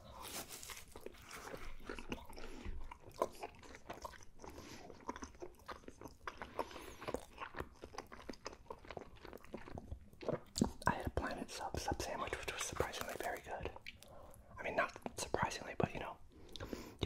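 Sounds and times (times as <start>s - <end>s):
chewing crunchy pizza: 0.0s - 15.3s.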